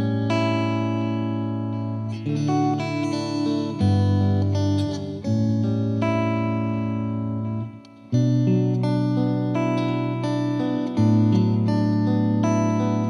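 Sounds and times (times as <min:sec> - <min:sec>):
slow guitar music: 0:00.0 - 0:13.0.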